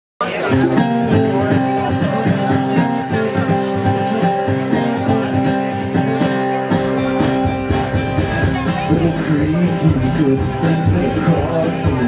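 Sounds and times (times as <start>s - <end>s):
bluegrass band playing: 0.2s - 12.0s.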